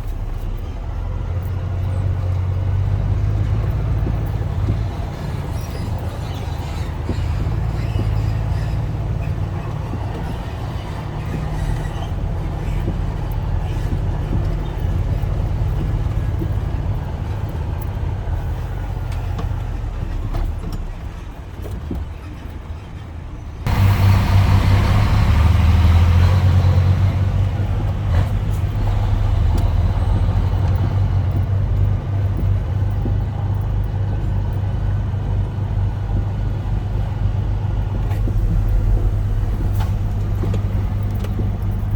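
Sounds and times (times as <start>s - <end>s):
diesel truck engine humming: 0.0s - 41.9s
road noise: 0.0s - 41.9s.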